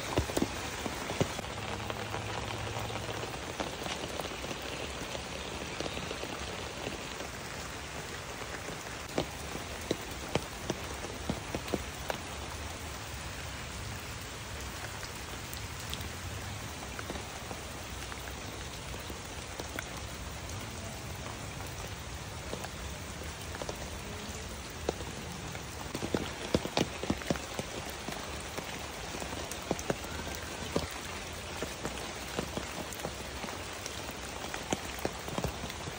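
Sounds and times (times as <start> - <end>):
raindrops hitting close by: 0.0 - 35.9
steady rain falling: 0.0 - 35.9.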